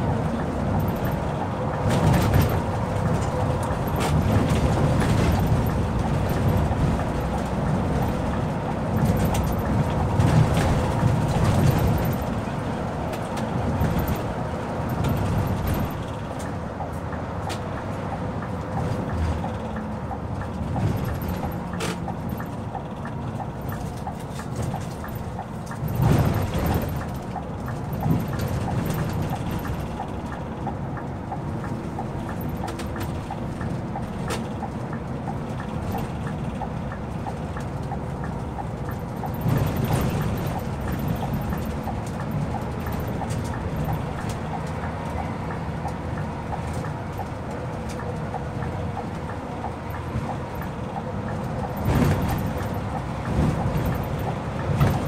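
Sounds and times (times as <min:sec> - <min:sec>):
coach engine noise: 0:00.0 - 0:55.0
road noise: 0:00.0 - 0:55.0.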